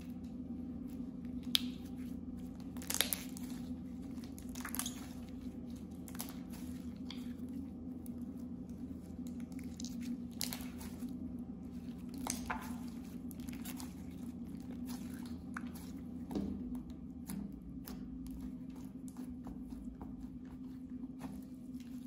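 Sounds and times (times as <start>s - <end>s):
low hum: 0.0s - 22.0s
slime squishing with pops: 1.2s - 11.2s, 11.8s - 22.0s.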